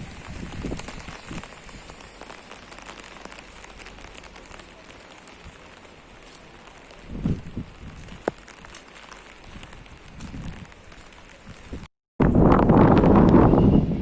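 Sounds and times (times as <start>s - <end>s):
rain falling: 0.0s - 11.9s.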